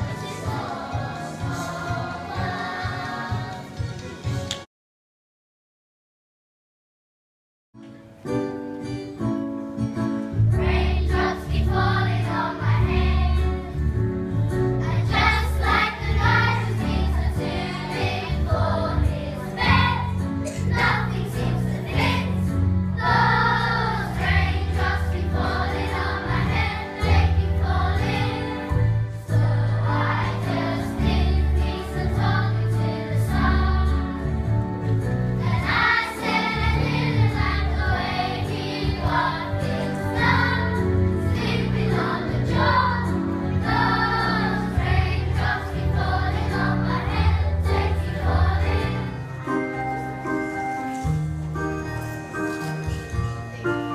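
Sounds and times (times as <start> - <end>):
children's choir singing: 0.0 - 4.3, 10.4 - 13.9, 14.8 - 50.6
instrumental accompaniment with bass: 8.4 - 53.9.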